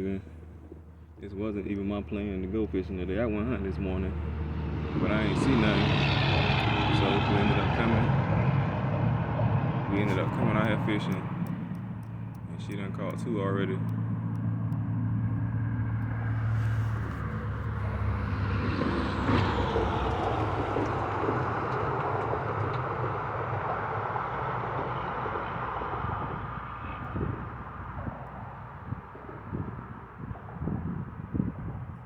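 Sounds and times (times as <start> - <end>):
motor vehicle passing by: 0.7 - 32.0.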